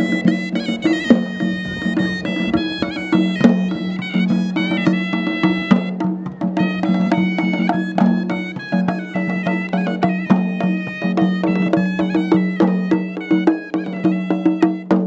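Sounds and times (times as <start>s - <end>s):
drum strokes: 0.0s - 15.0s
shawm playing reedy melody: 0.0s - 15.0s.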